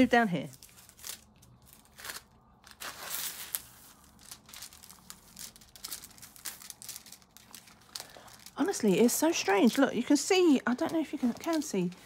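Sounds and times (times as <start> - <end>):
plastic film crinkling as peeled: 0.0 - 12.0.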